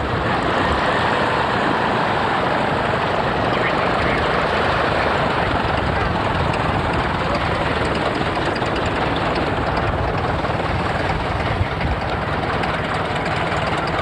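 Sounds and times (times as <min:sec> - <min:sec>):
light airplane engine and propeller: 0:00.0 - 0:14.0.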